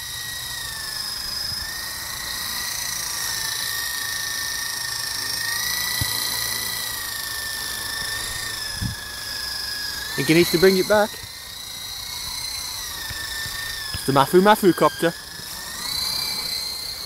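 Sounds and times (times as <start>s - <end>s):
rc helicopter whine: 0.0s - 17.0s.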